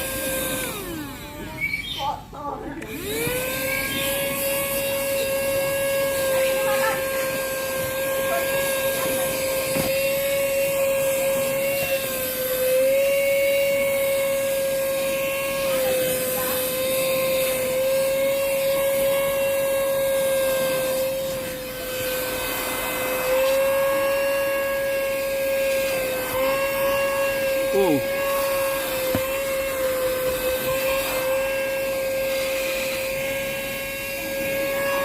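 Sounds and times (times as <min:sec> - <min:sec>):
handheld vacuum cleaner whine: 0:00.0 - 0:35.0.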